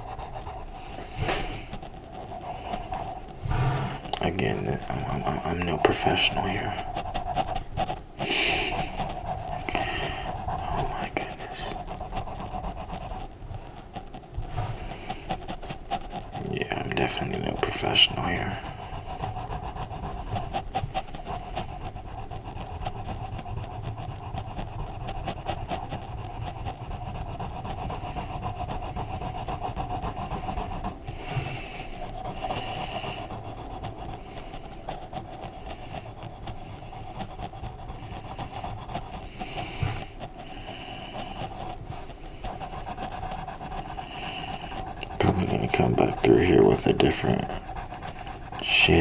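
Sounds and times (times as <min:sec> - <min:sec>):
colouring strokes scratching paper: 0:00.0 - 0:49.0
steady hum: 0:00.0 - 0:49.0.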